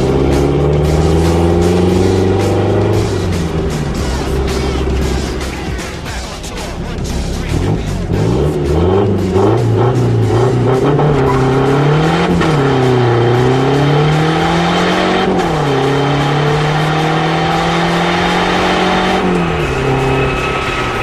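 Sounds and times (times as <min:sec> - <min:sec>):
diesel car engine accelerating: 0:00.0 - 0:21.0.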